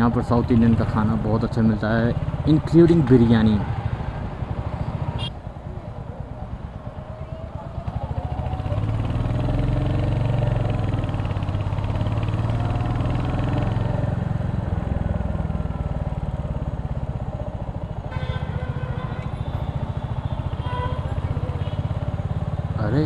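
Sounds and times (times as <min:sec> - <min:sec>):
motorcycle engine running: 0:00.4 - 0:23.0.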